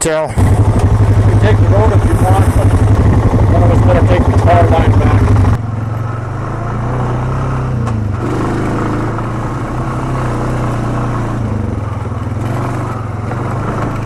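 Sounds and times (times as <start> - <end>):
atv engine running: 0.3 - 14.0.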